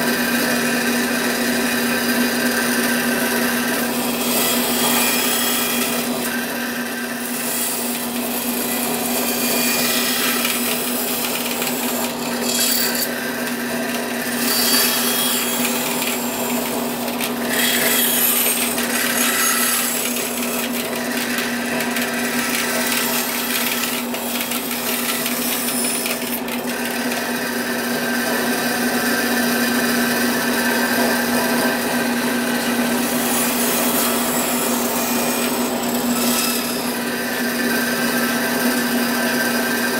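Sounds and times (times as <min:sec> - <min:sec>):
bandsaw blade rasping: 0:00.0 - 0:39.9
bandsaw motor hum: 0:00.0 - 0:39.9.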